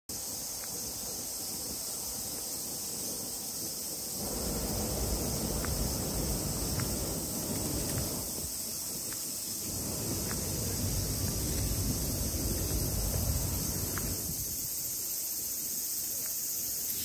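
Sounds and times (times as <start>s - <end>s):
high-pitched insect-like hiss: 0.0s - 17.0s
wind rumble on microphone: 0.2s - 15.0s.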